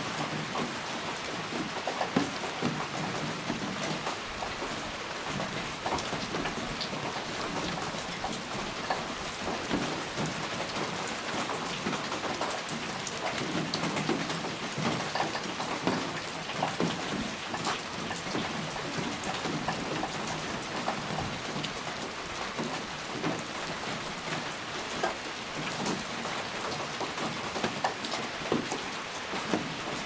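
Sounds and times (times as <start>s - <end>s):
raindrops ticking on surface: 0.0s - 30.0s
steady rain: 0.0s - 30.0s.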